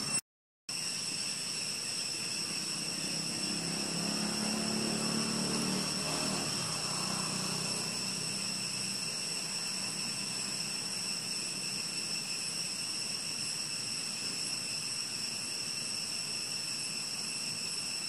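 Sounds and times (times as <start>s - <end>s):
insects droning in trees: 0.0s - 18.0s.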